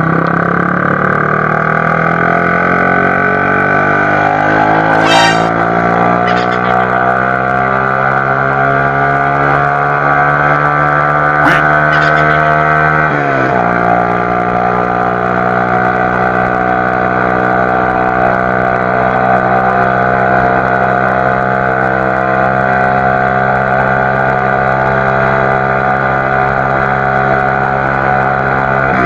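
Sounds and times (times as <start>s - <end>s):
loud motorcycle engine: 0.0s - 29.0s.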